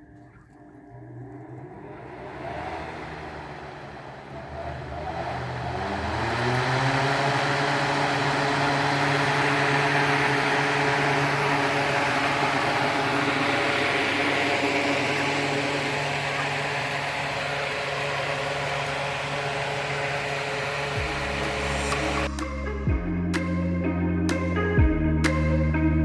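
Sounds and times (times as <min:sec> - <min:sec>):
motor humming and hissing: 0:00.0 - 0:22.3.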